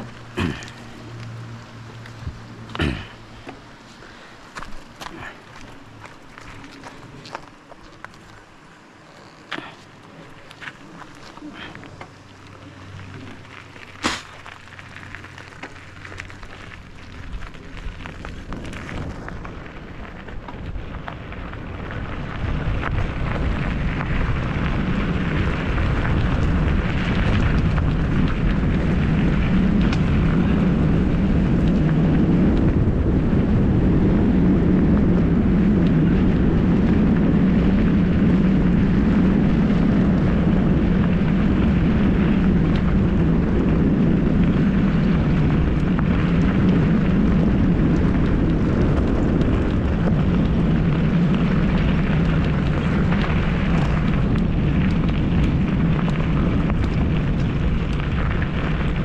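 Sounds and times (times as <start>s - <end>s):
tyre rumble on gravel: 0.0s - 59.0s
wind buffeting microphone: 9.6s - 59.0s.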